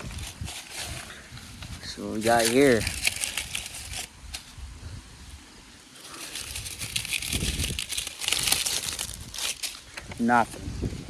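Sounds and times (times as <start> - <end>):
dry corn stalks rustling: 0.0 - 11.0.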